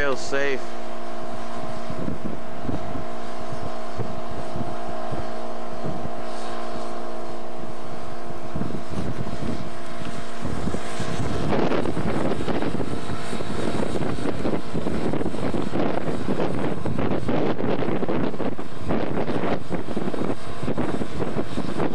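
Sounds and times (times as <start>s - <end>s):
engine running: 0.0s - 21.9s
wind buffeting microphone: 0.0s - 21.9s.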